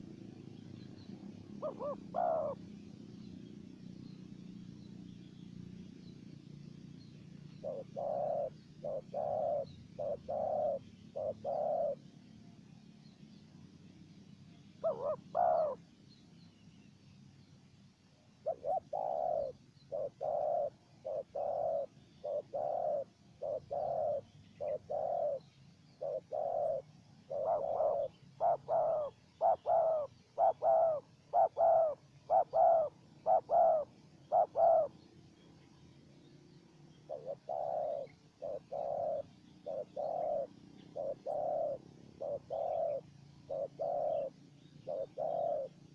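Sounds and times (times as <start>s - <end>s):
dove cooing: 0.0s - 16.0s, 18.3s - 45.9s.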